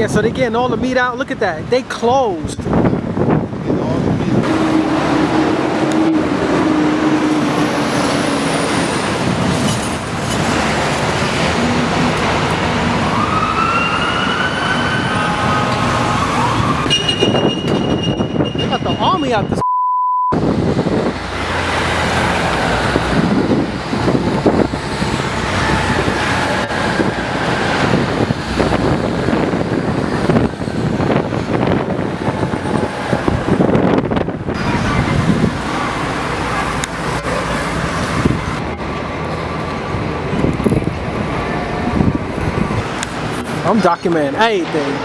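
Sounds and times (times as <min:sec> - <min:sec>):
street traffic: 0:00.0 - 0:19.6, 0:20.3 - 0:45.0
wind buffeting microphone: 0:00.0 - 0:19.6, 0:20.3 - 0:37.2, 0:37.8 - 0:45.0.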